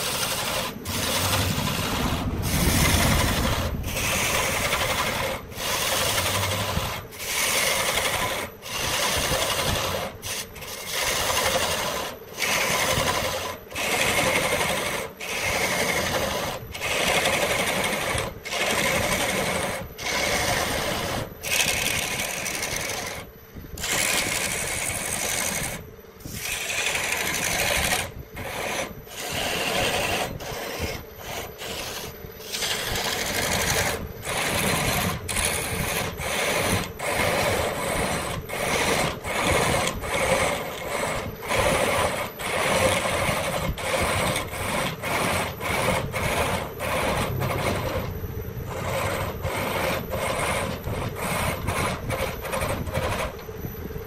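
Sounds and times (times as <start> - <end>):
hand tool scraping wood: 0.0 - 53.5.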